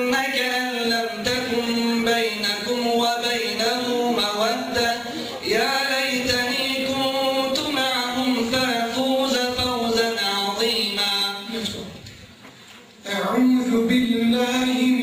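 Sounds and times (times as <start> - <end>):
man chanting melodically: 0.0 - 12.0, 13.0 - 15.0.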